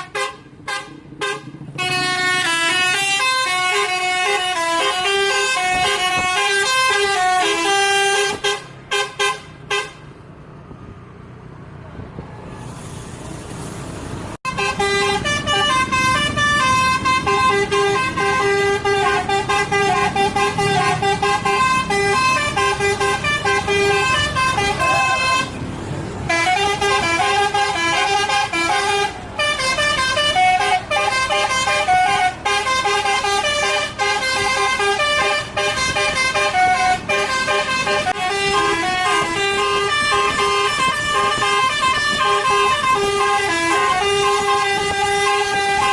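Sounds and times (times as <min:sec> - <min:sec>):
multi-tone bus horns playing a tune: 0:00.0 - 0:10.1, 0:14.4 - 0:45.9.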